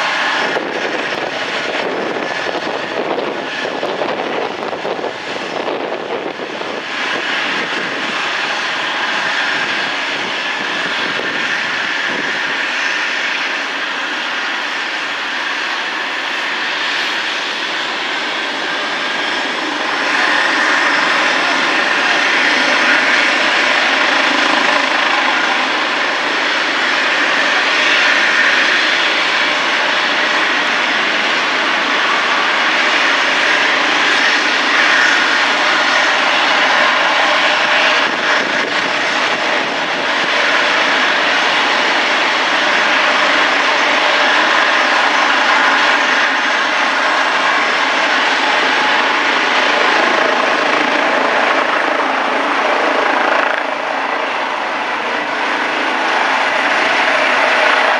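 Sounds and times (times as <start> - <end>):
helicopter rotor noise: 0.0 - 57.9
helicopter turbine whine: 0.0 - 57.9.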